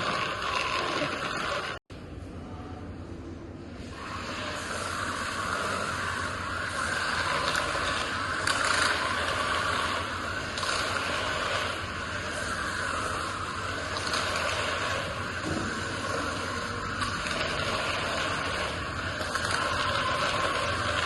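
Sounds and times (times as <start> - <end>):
magnetic sweeper whirring: 0.0 - 21.0.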